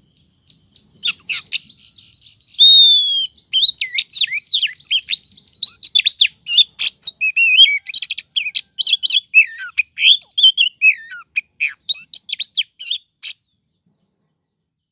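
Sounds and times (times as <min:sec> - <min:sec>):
bird chirping and whistling: 0:00.6 - 0:13.4.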